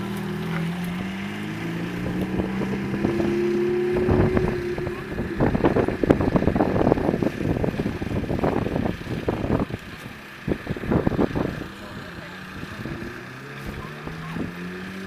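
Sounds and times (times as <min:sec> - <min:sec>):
sports car engine accelerating: 0:00.0 - 0:15.0
wind buffeting microphone: 0:00.0 - 0:15.0.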